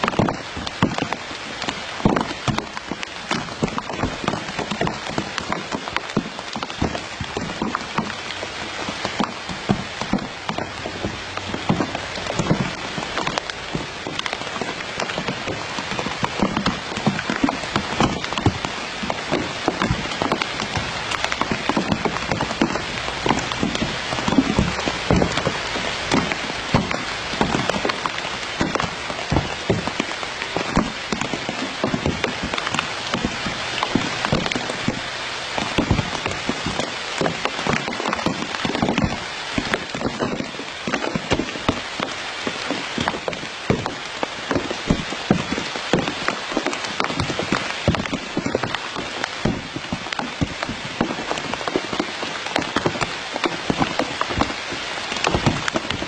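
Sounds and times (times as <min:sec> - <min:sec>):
dense patter of small taps: 0:00.0 - 0:56.0
steady hiss: 0:00.0 - 0:56.0.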